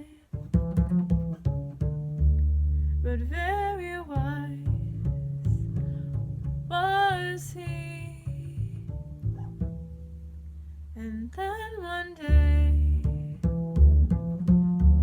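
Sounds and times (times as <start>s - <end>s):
plucked bass notes: 0.0s - 15.0s.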